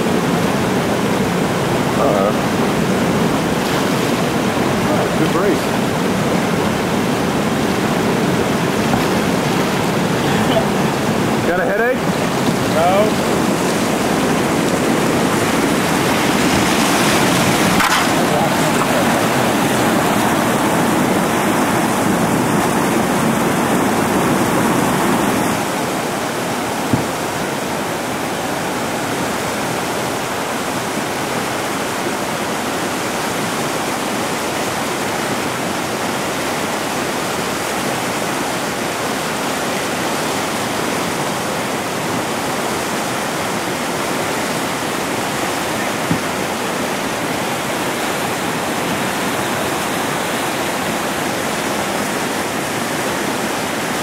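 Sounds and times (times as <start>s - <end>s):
whitewater rapids roaring: 0.0s - 54.0s.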